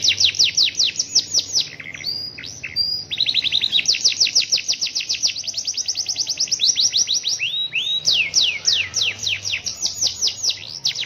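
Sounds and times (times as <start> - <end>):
canary singing trills: 0.0 - 11.0.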